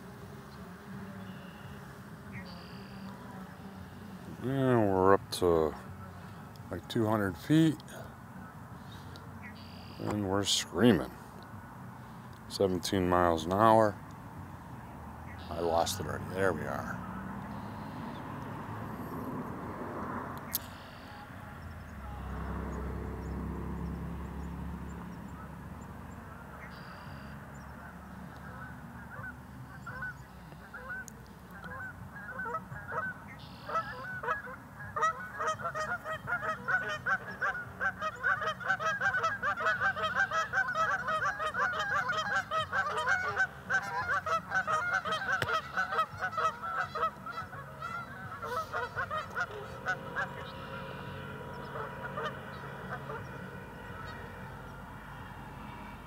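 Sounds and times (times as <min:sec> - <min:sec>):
geese honking: 0:00.0 - 0:11.3, 0:15.3 - 0:19.2, 0:20.5 - 0:56.0.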